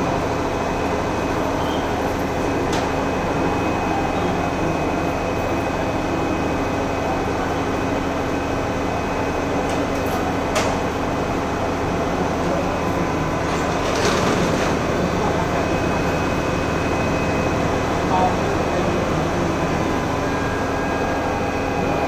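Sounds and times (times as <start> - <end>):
fire engine engine drone: 0.0 - 22.0.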